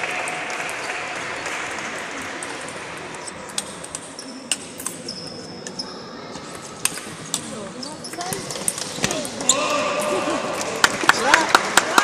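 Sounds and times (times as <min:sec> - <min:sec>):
murmur of gym hall: 0:00.0 - 0:12.0.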